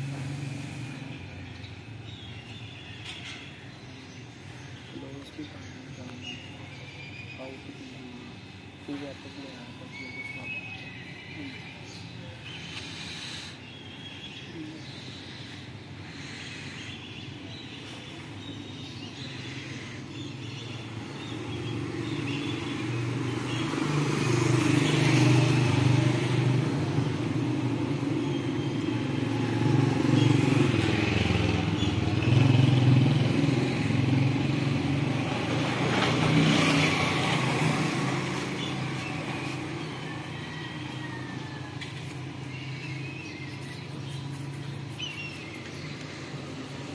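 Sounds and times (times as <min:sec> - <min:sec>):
vehicles passing on road: 0:00.0 - 0:46.9.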